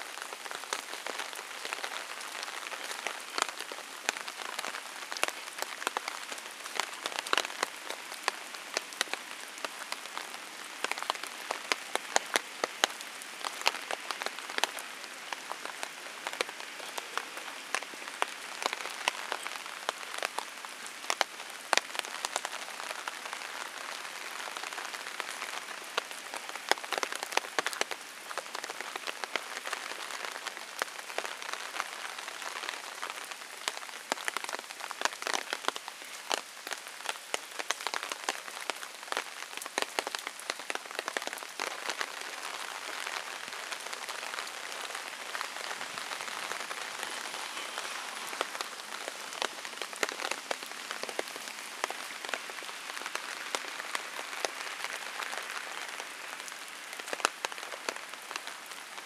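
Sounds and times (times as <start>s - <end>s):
rain falling: 0.0s - 59.0s
raindrops ticking close by: 0.0s - 59.0s.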